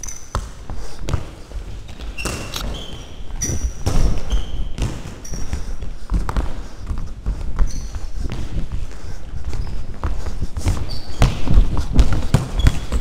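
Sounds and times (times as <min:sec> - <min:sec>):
running footsteps: 0:00.0 - 0:13.0
sneakers squeaking on floor: 0:00.0 - 0:13.0.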